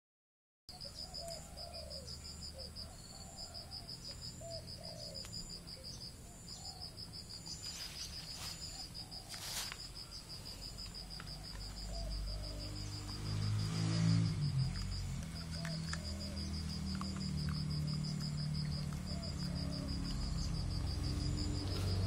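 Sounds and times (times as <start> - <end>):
insect chirping trill: 0.7 - 22.0.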